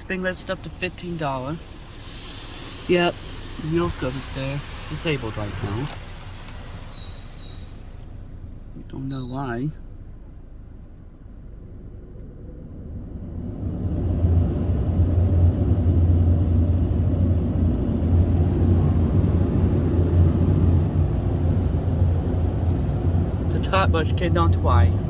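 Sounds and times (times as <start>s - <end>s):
car wash machine rumbling: 0.0s - 25.0s.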